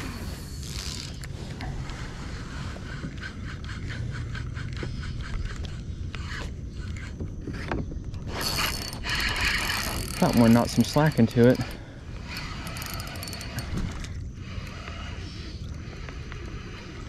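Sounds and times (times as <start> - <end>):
fishing reel scraping: 0.0 - 17.0.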